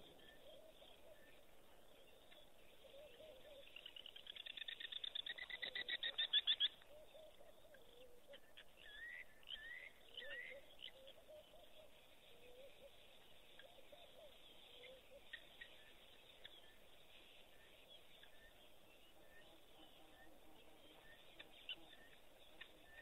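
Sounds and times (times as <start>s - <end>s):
low chattering bird calls: 0.0s - 23.0s.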